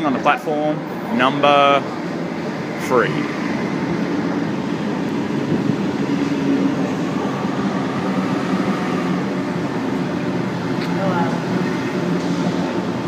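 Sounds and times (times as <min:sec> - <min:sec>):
train humming at platform: 0:00.0 - 0:13.0.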